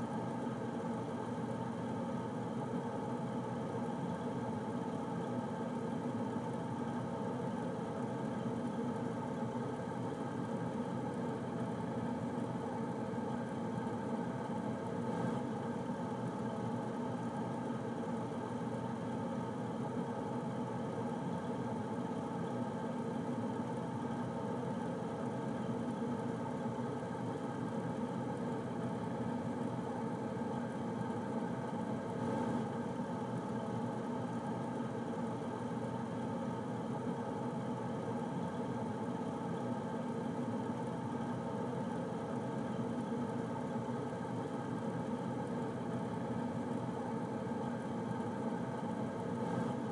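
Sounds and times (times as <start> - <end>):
air conditioner whir and hum: 0.0 - 49.9.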